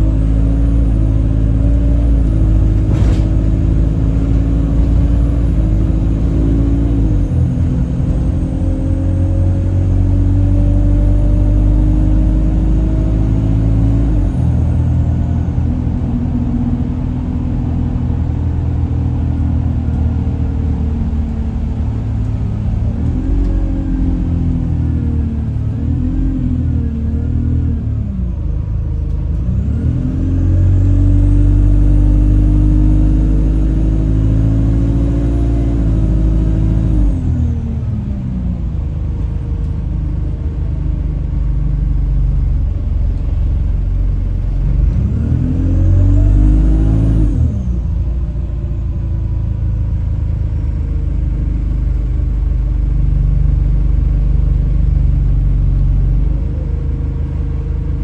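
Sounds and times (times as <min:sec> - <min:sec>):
bus engine pulling away: 0:00.0 - 0:58.0.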